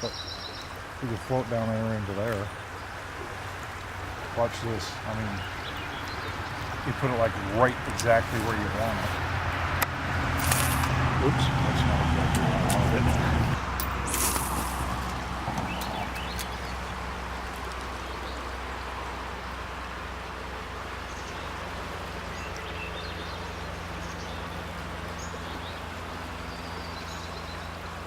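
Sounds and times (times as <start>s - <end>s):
flowing river: 0.0s - 28.0s.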